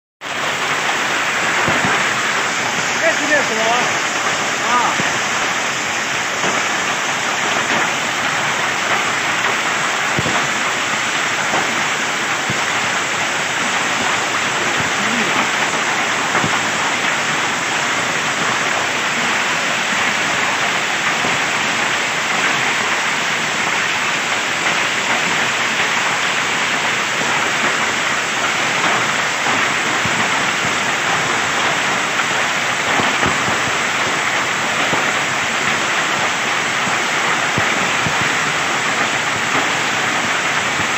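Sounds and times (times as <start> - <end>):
hailstones falling on ground: 0.3 - 40.9.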